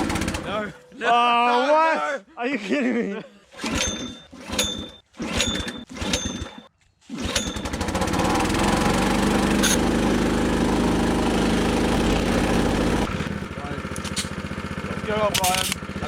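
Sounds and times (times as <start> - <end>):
small petrol engine running: 0.0 - 0.6, 3.6 - 16.0.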